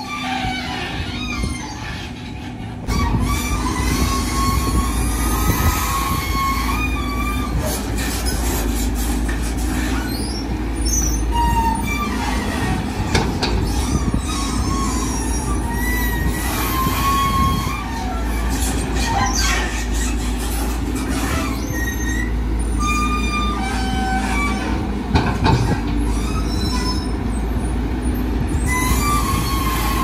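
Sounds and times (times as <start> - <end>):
excavator diesel engine: 0.0 - 30.0
metallic squeals: 0.0 - 30.0.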